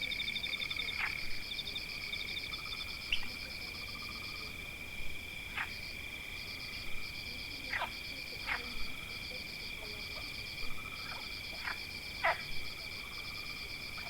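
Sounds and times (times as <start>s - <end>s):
insects and frogs trilling: 0.0s - 14.0s.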